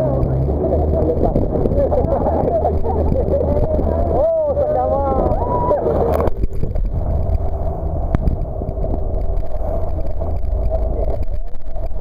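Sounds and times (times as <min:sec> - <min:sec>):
jet boat engine drone: 0:00.0 - 0:12.0
wind buffeting microphone: 0:00.0 - 0:12.0.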